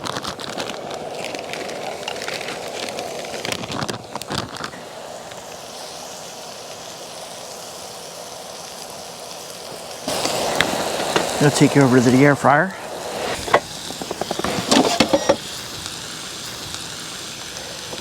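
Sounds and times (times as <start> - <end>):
shrimp sizzling in a pan: 0.0 - 18.0.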